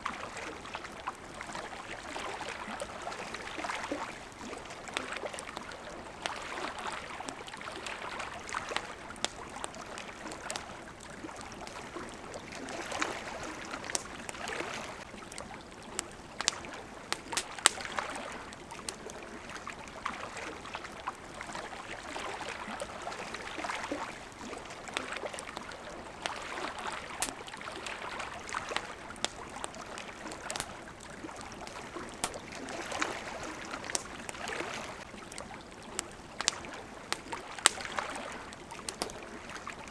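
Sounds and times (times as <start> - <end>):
small waves lapping: 0.0 - 39.9
campfire crackling and popping: 0.1 - 39.9.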